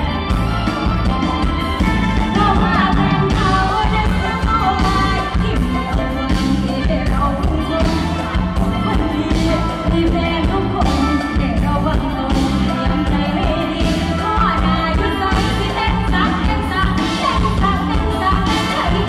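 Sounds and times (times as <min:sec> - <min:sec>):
live band music: 0:00.0 - 0:19.0
person singing into a microphone: 0:02.1 - 0:19.0.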